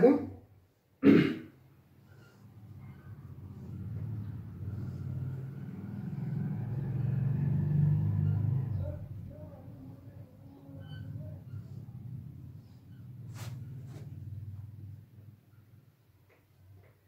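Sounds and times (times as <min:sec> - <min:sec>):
motor vehicle passing: 0:01.6 - 0:15.9.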